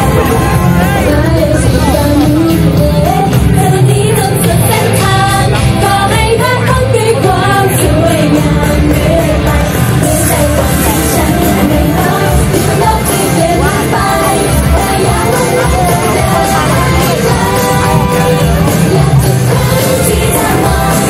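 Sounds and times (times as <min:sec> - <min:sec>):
pop backing track over pa system: 0:00.0 - 0:21.0
women singing: 0:00.0 - 0:21.0.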